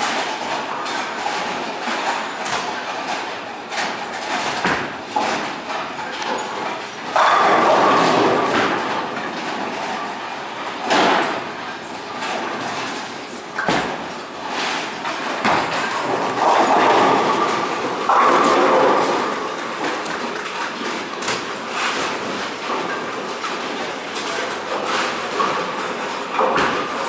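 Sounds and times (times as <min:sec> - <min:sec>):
bowling pins crashing: 0:01.2 - 0:27.0.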